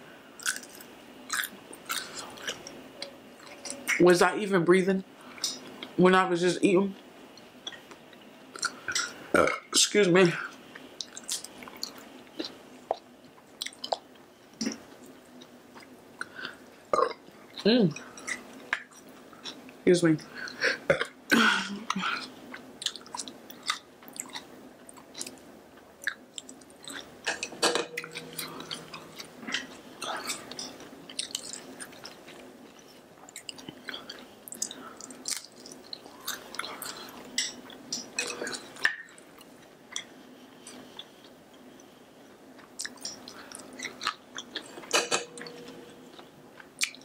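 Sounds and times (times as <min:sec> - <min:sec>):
person chewing food: 0:00.4 - 0:04.0, 0:07.4 - 0:09.2, 0:10.5 - 0:19.8, 0:21.9 - 0:47.0.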